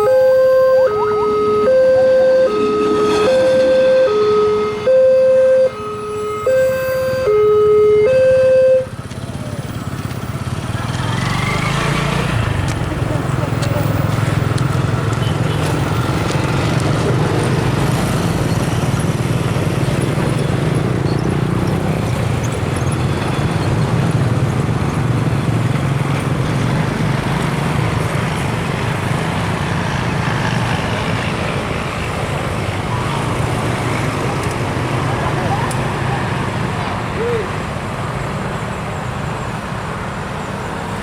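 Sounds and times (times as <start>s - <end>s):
road traffic rumble: 0.0s - 41.0s
vehicle engines running: 0.0s - 41.0s.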